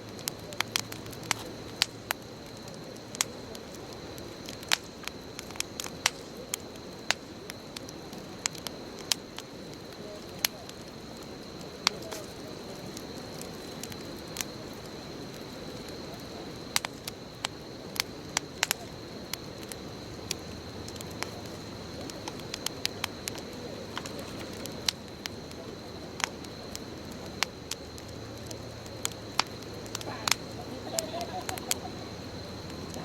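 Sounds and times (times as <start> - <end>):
wood bonfire crackling: 0.0 - 33.0.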